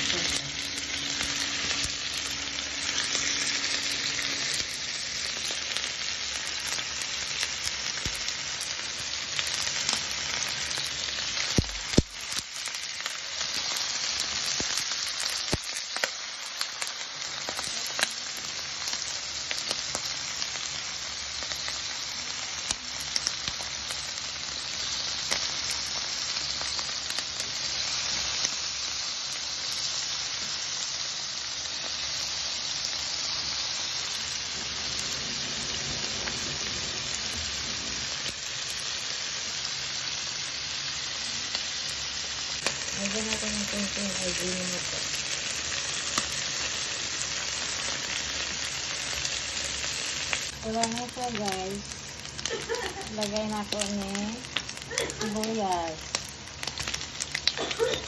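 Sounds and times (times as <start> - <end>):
chicken frying in oil: 0.0 - 58.0.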